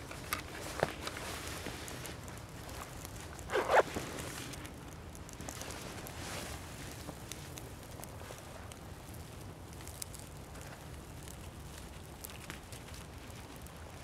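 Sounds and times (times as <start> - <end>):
small fire crackling: 0.0 - 14.0.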